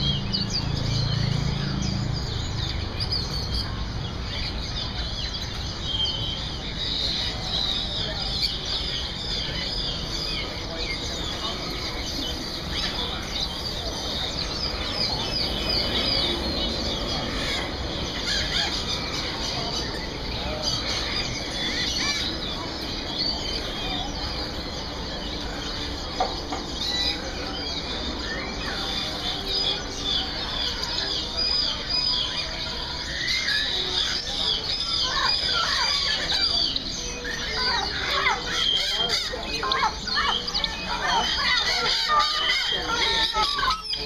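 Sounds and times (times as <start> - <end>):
caged birds chirping and whistling: 0.0 - 44.0.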